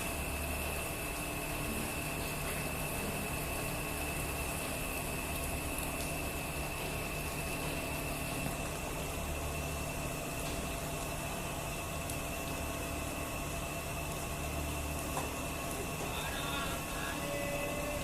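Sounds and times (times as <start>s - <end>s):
machine humming with whine: 0.0s - 18.0s.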